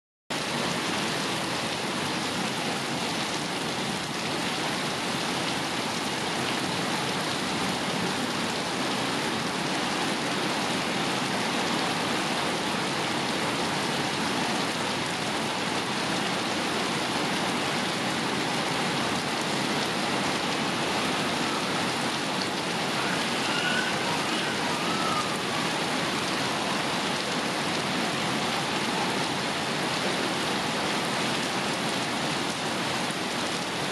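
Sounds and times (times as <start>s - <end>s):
rain falling on leaves: 0.3s - 33.9s.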